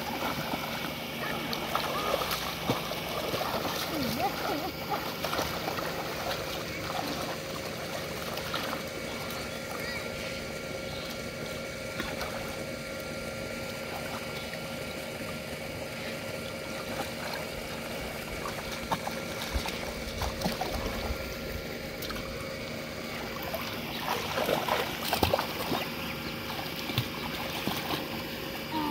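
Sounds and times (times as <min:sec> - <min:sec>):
muddy water splashing and sloshing: 0:00.0 - 0:28.9.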